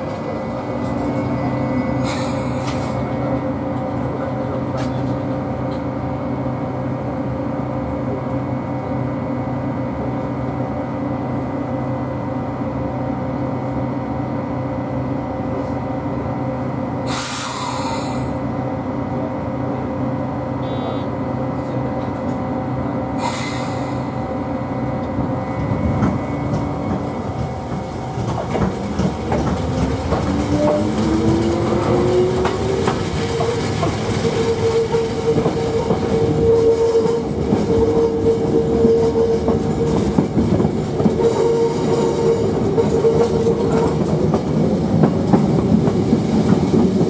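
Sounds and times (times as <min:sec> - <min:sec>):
electric train hum: 0:00.0 - 0:47.0.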